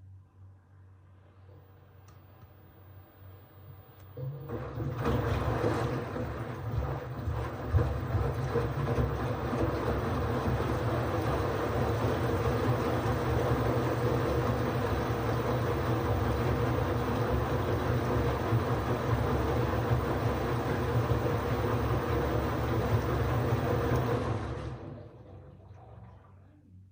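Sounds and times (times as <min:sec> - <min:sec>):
washing machine running: 0:04.1 - 0:26.8.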